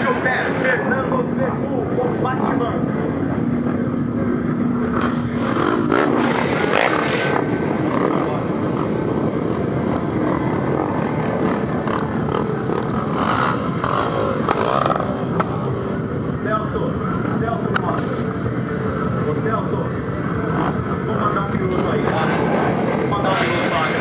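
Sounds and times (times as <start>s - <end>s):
motorcycle revving: 0.0s - 24.0s
trail motorcycles running: 0.0s - 24.0s.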